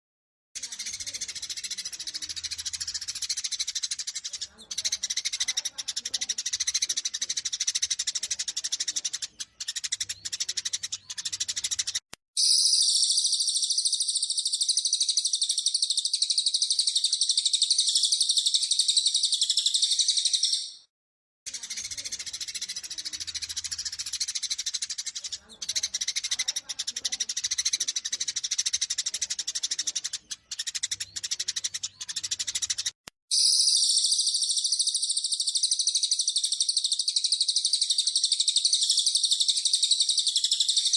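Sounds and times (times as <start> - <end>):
high-pitched bird trill: 0.6 - 20.9, 27.3 - 40.9
sparrows harsh chatter: 0.6 - 20.9, 21.5 - 40.9.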